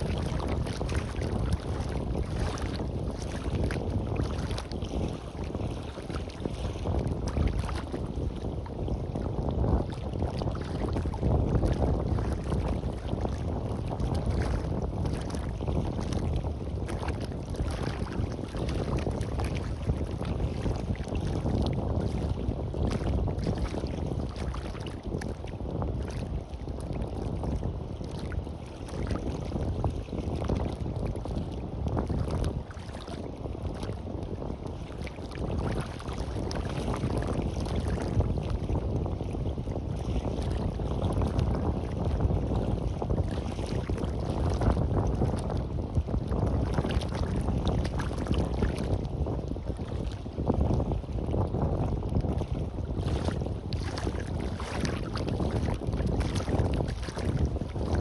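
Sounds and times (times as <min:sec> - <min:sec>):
sea waves on a beach: 0:00.0 - 0:58.0
wind buffeting microphone: 0:00.0 - 0:58.0.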